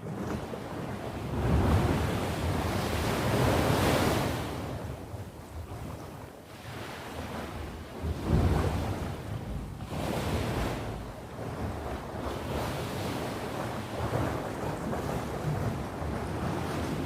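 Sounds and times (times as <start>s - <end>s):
sea waves breaking: 0.0s - 17.0s
wind buffeting microphone: 0.0s - 17.0s.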